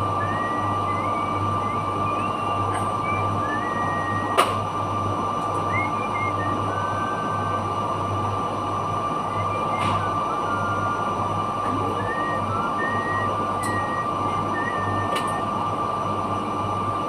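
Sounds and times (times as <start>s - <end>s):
machinery high whine: 0.0s - 17.0s.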